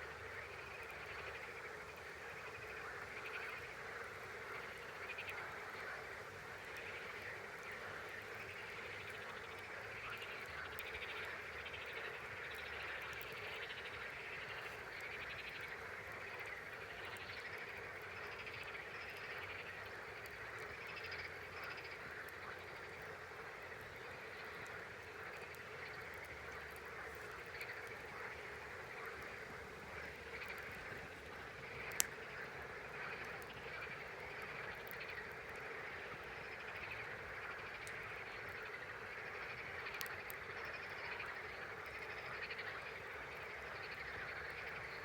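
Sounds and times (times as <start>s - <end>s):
chorus of frogs calling: 0.0s - 45.0s
faint scattered clicks: 6.6s - 44.9s.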